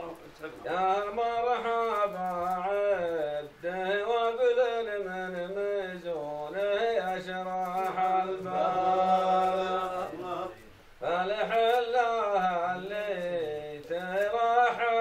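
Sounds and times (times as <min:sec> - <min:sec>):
man chanting unaccompanied: 0:00.0 - 0:15.0.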